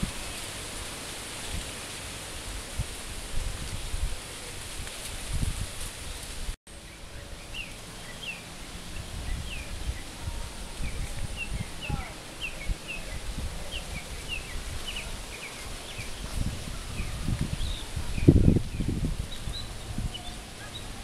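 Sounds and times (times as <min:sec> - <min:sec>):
wind rumble: 0:00.0 - 0:21.0.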